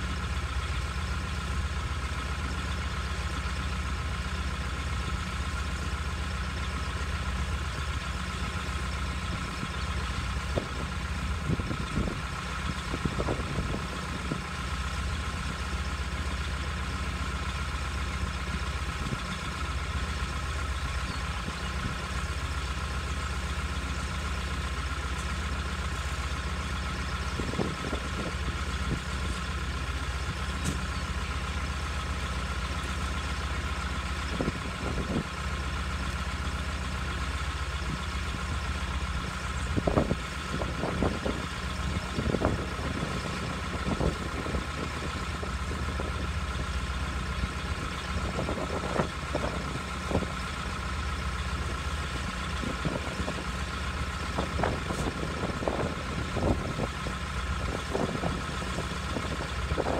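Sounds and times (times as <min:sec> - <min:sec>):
crane engine idling: 0:00.0 - 0:59.9.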